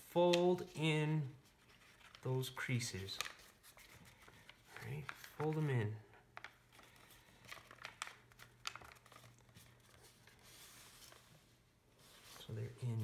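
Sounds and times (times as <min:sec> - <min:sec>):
paper crinkling and rustling: 0:00.2 - 0:13.0.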